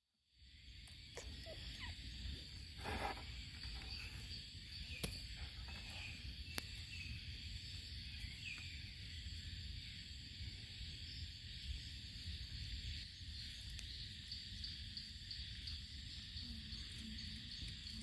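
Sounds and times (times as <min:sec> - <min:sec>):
high-pitched insect chorus: 0:00.3 - 0:18.0
rustle: 0:00.6 - 0:18.0.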